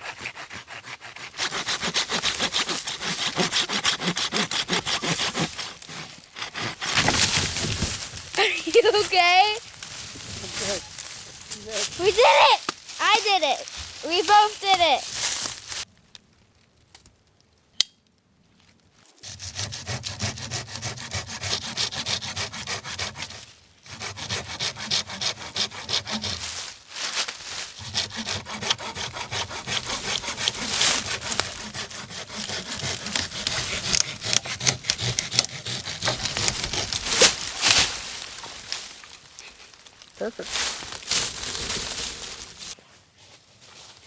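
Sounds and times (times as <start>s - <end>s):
hand saw cutting wood: 0.0s - 15.8s, 19.2s - 42.8s.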